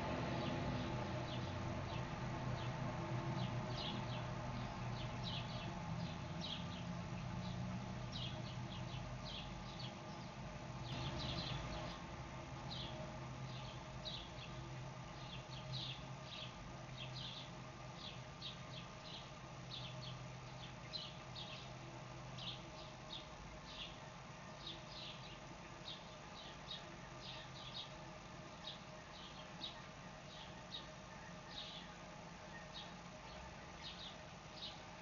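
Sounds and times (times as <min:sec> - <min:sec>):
steady low underwater hum: 0:00.0 - 0:35.0.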